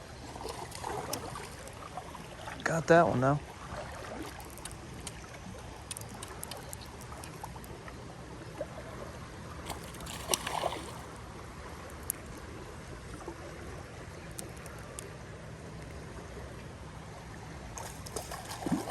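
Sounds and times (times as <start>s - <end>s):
creek water running: 0.0s - 18.9s.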